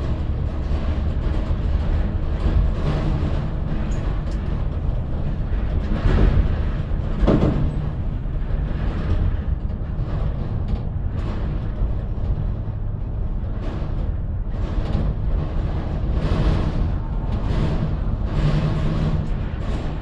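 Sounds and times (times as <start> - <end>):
vehicle rumbling on road: 0.0 - 20.0.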